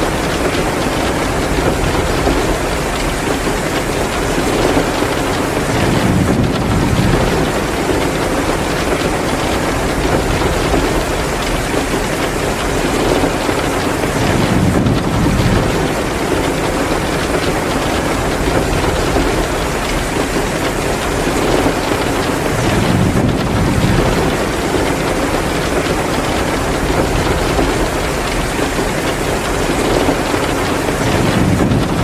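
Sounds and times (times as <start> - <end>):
heavy rain: 0.0 - 32.0
wood fire crackling: 0.0 - 32.0.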